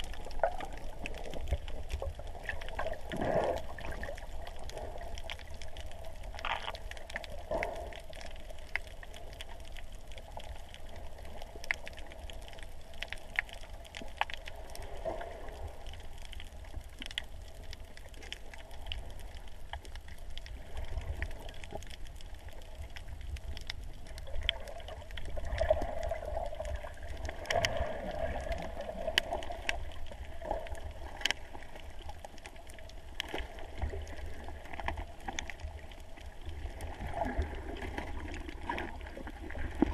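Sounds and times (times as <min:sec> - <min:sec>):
muffled underwater movement: 0:00.0 - 0:39.9
sharp clicks and crackles: 0:00.0 - 0:39.9.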